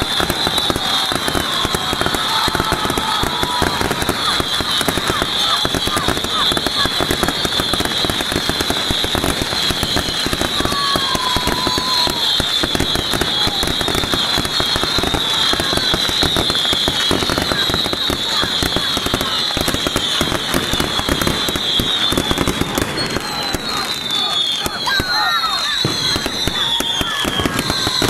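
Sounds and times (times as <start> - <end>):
firecrackers popping: 0.0 - 28.0.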